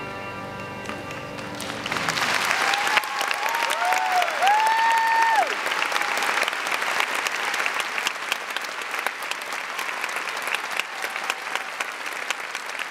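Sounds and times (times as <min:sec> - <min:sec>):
audience applause: 0:00.8 - 0:12.9.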